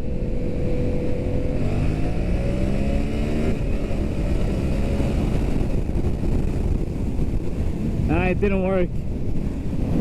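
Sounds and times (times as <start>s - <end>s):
motorcycle engine at full throttle: 0.0s - 10.0s.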